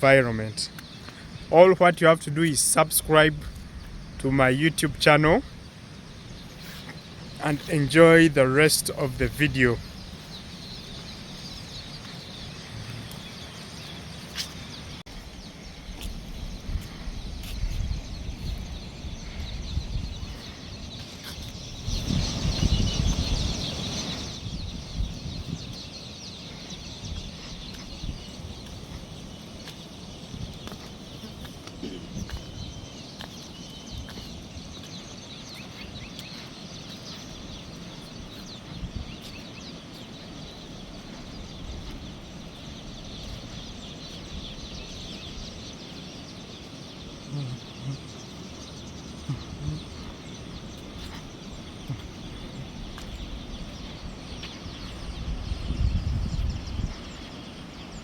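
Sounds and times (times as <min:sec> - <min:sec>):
birds calling: 0:00.0 - 0:58.0
wind rumbling on microphone: 0:00.0 - 0:58.0.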